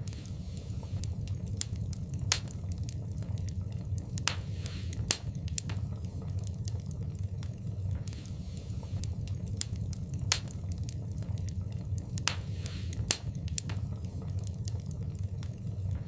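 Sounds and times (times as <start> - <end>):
wood fire burning and crackling: 0.0 - 16.0.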